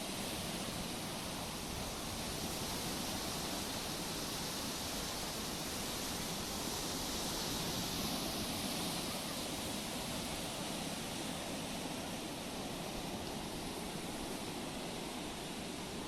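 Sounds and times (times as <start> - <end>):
waves washing on shore: 0.0 - 16.0.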